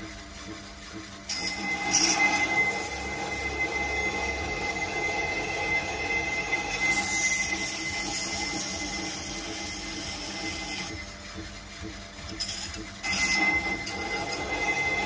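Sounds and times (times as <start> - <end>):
knife on sharpening wheel: 1.3 - 11.0, 12.4 - 15.0.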